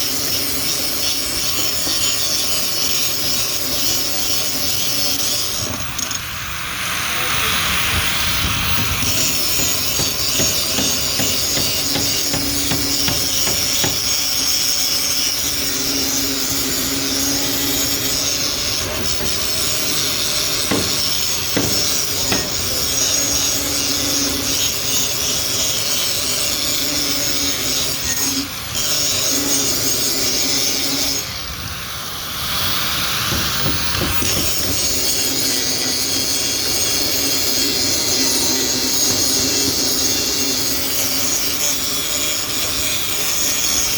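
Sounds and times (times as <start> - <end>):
angle grinder grinding metal: 0.0 - 6.3, 8.1 - 43.9.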